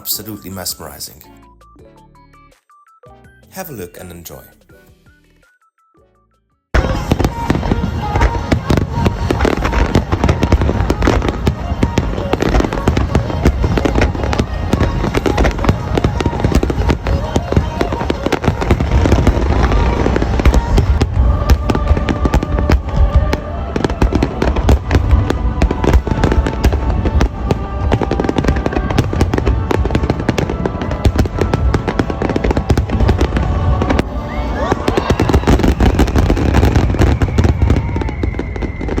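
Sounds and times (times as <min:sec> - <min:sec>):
fireworks booming and crackling: 0:06.8 - 0:39.0.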